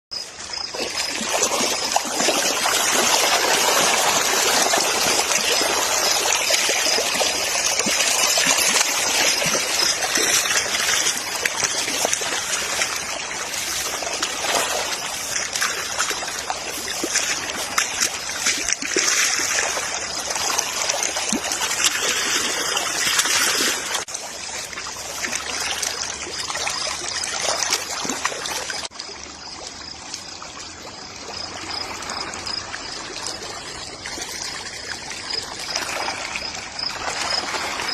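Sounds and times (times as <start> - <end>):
small water splashes: 0.1 - 37.9
water running and trickling: 0.2 - 37.9.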